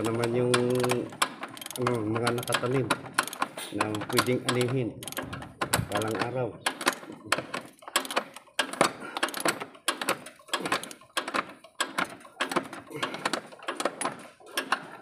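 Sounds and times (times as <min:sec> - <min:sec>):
socket ratchet clicking: 0:00.0 - 0:12.6.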